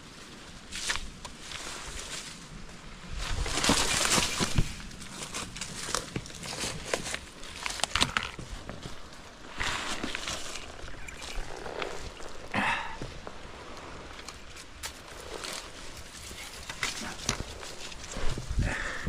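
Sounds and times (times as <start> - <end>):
branches and twigs rustling: 0.0 - 19.0
crunching footsteps: 0.8 - 19.0.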